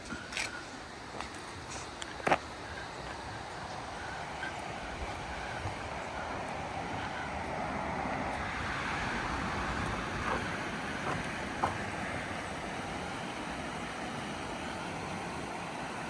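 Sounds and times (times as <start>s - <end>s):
road traffic rushing past: 2.2s - 16.0s.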